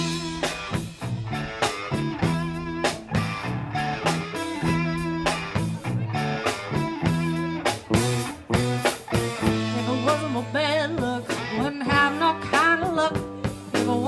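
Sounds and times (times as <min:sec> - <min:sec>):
electric blues band playing: 0:00.0 - 0:14.0
electric guitar bending notes: 0:00.0 - 0:14.0.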